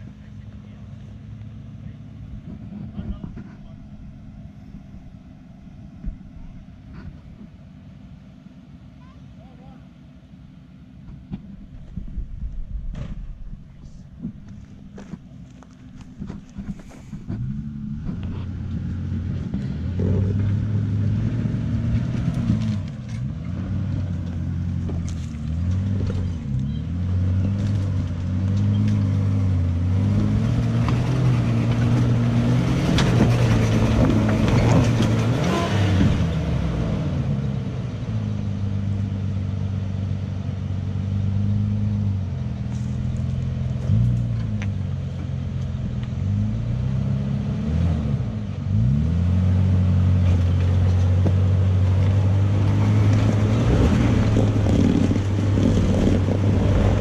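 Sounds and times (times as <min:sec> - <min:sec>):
vehicle engine revving: 0:11.0 - 0:57.0.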